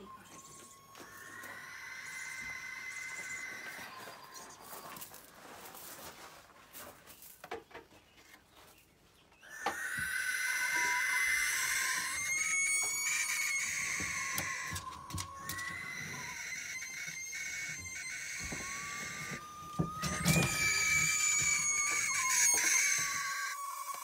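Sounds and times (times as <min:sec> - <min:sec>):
barn owl hissing screech: 0:00.0 - 0:04.8, 0:09.4 - 0:24.0.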